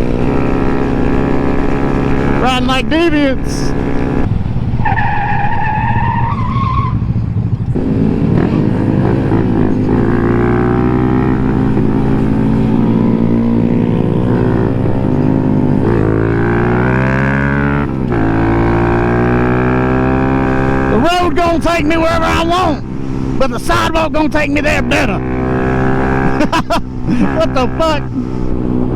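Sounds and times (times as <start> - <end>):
motorcycle engine running: 0.0 - 5.0, 6.7 - 28.9.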